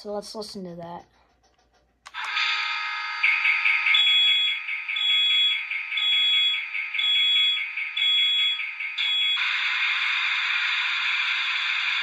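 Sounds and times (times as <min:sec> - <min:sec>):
electronic alarm beeps: 0:02.2 - 0:12.0.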